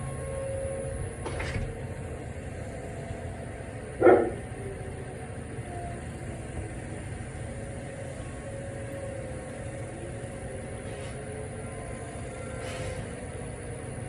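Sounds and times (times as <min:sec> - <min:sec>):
distant wavering sirens: 0:00.0 - 0:14.0.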